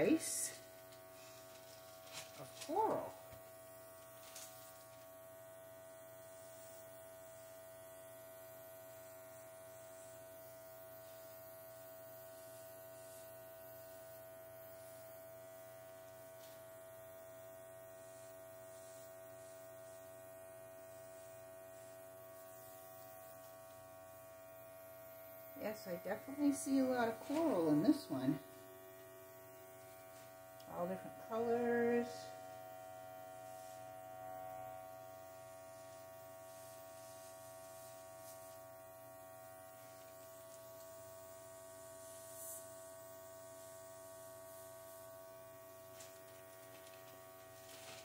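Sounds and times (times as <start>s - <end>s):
airbrush compressor humming: 0.0s - 48.0s.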